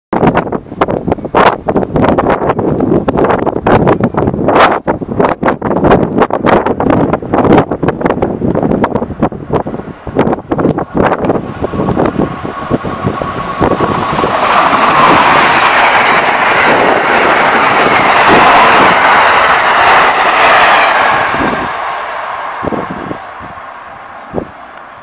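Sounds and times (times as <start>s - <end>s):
wind buffeting microphone: 0.1s - 25.0s
passenger train passing: 0.2s - 25.0s.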